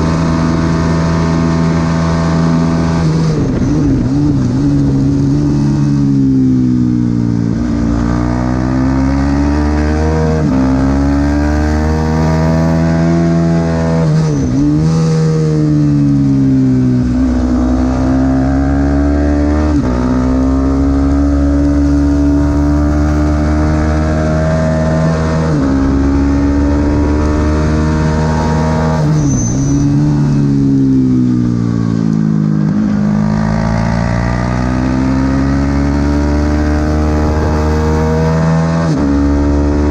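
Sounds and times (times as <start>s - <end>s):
race motorcycle engine revving: 0.0s - 39.9s.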